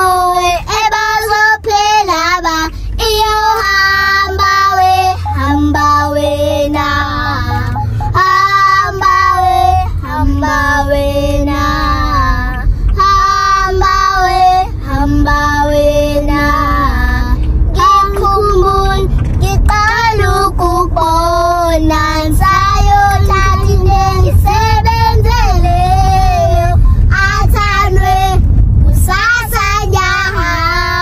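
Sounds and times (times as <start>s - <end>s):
girls singing: 0.0s - 28.4s, 29.0s - 31.0s
car rumble: 0.0s - 31.0s.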